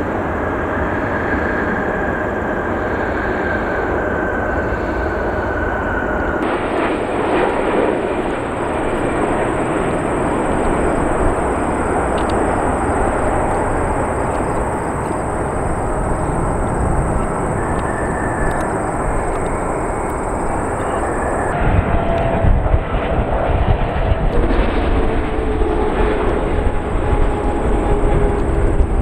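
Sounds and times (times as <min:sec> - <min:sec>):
jet engines roaring: 0:00.0 - 0:29.0.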